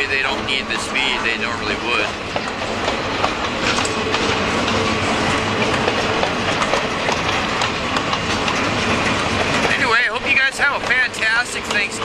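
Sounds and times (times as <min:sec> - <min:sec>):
freight train wheels clacking: 0:00.0 - 0:12.0
train rumble: 0:00.0 - 0:12.0.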